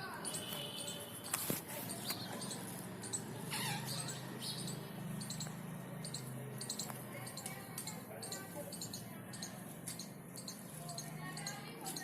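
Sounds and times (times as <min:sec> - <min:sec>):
parrot squeaks and chirps: 0:01.8 - 0:12.0.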